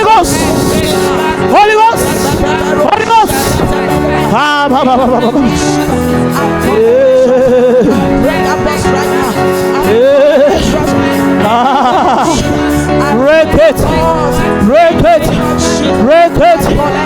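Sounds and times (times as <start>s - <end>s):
worship backing music: 0.0s - 17.0s.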